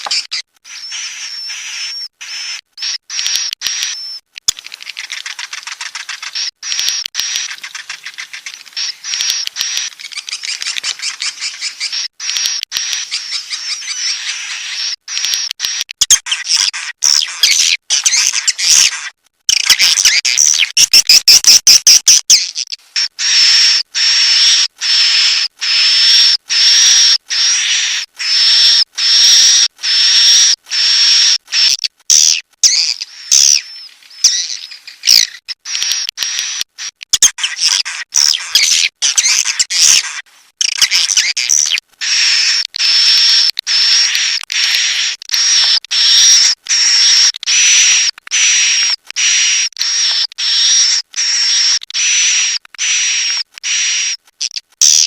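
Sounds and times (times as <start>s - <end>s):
swiftlets chirping: 0.0s - 54.2s.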